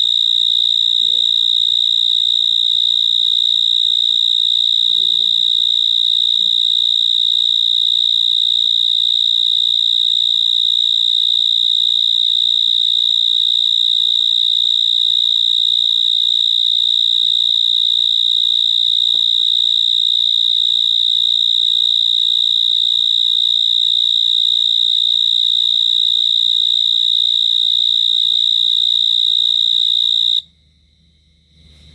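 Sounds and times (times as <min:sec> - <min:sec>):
insect trilling: 0:00.0 - 0:30.5.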